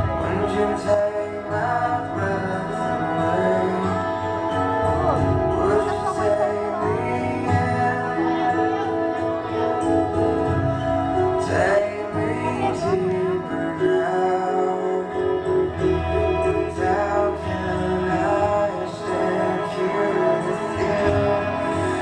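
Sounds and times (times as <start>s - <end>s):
song with singing: 0.0s - 22.0s.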